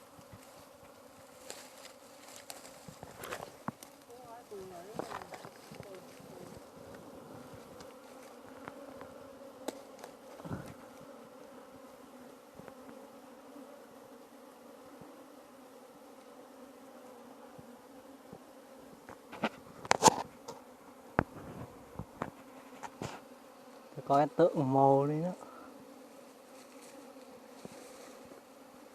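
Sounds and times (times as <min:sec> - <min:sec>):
honeybees buzzing: 0:00.0 - 0:28.9.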